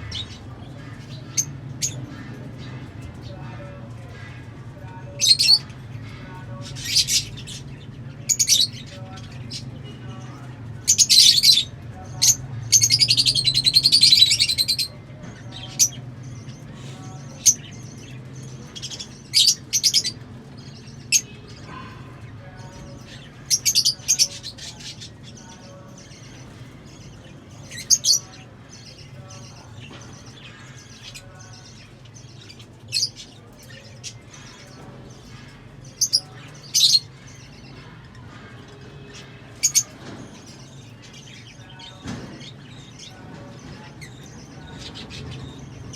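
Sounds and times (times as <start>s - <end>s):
lovebirds chirping: 0.0s - 45.9s.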